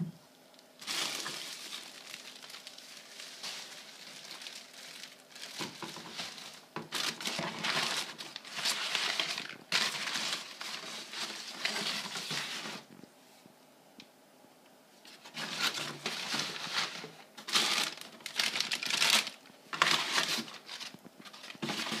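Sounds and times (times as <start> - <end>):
packing paper rustling and crinkling: 0.8 - 13.0, 15.0 - 22.0.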